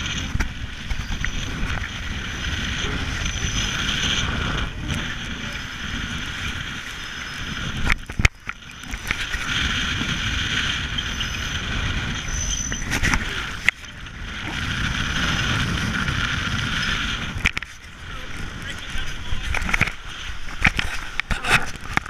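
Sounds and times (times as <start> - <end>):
water rushing past hulls: 0.0 - 22.0
wind buffeting microphone: 0.0 - 22.0.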